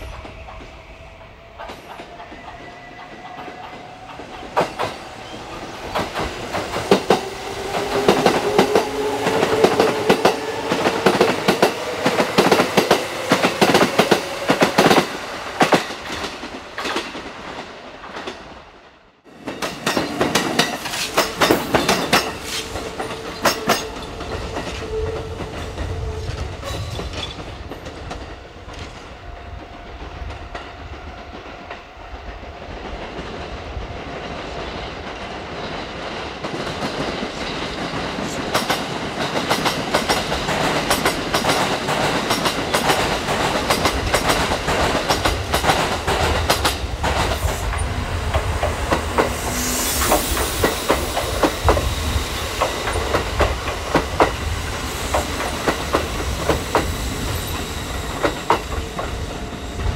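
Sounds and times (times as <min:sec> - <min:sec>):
train wheels clattering over rails: 0:00.0 - 0:18.6, 0:19.3 - 0:59.9
steady train whine: 0:00.0 - 0:59.9.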